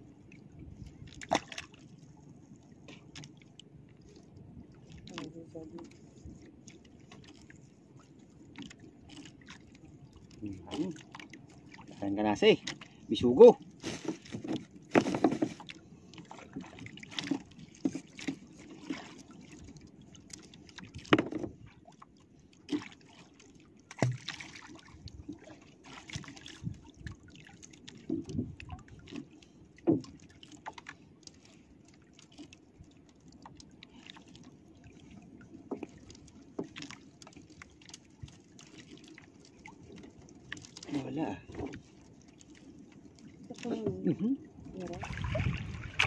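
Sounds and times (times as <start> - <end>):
water lapping against boat: 0.0 - 46.0.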